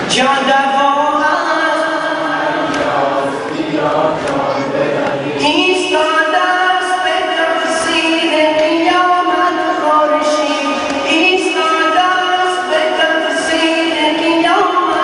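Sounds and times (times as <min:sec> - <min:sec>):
voices chanting in chorus: 0:00.6 - 0:15.0.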